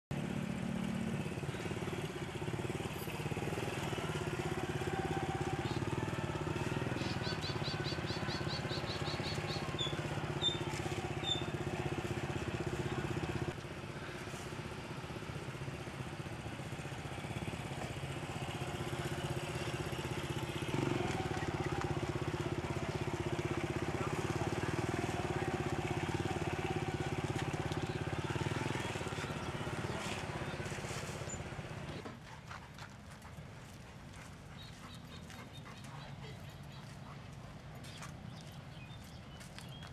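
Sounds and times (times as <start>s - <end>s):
motorbike engine running at low speed: 0.1s - 39.9s.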